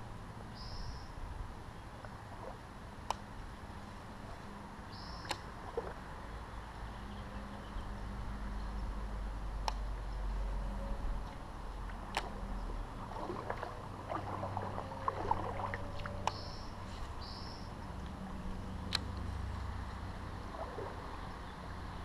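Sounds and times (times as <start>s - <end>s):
creek ambience: 0.0s - 22.0s.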